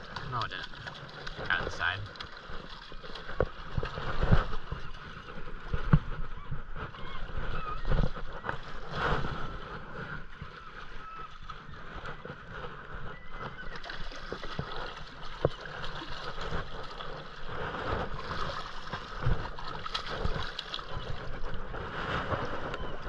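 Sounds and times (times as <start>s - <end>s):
fish splashing in water: 0.0s - 23.0s.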